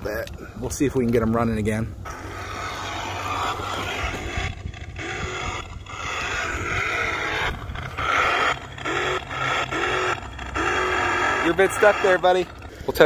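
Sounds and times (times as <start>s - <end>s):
toy truck motor whirring on wood chips: 2.0s - 13.0s.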